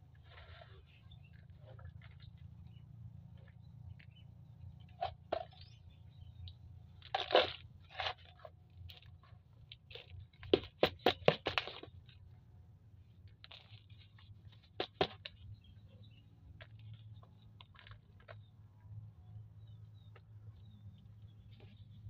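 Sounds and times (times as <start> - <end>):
soil crunching and scraping in pot: 0.0 - 12.4, 13.1 - 18.9, 19.6 - 22.0.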